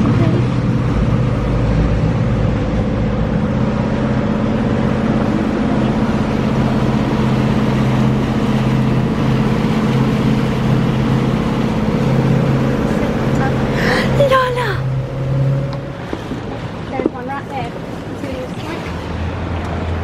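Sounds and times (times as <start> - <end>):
outboard engine hum: 0.0 - 20.0
water rushing: 0.0 - 20.0
wind: 0.0 - 20.0.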